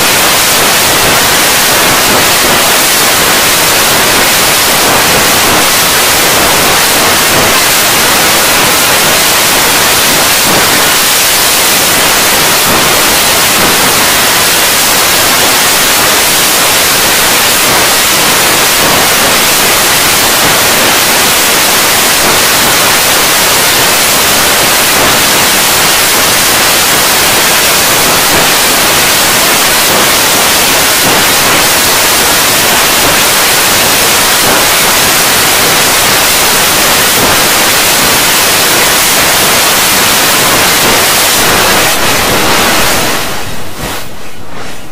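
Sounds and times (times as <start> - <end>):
loud static: 0.0 - 44.9.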